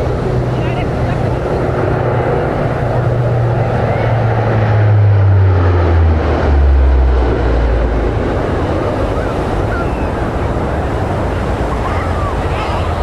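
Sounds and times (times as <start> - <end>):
aircraft engine drone: 0.0 - 13.0
surf: 0.0 - 13.0
wind rushing: 1.2 - 13.0.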